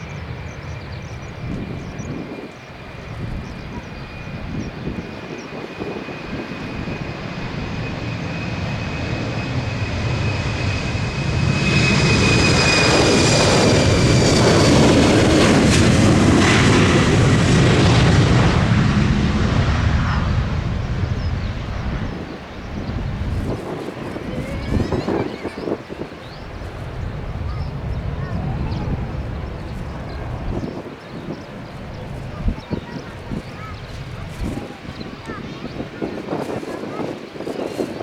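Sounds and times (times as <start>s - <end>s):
jet airliner passing: 0.0s - 38.0s.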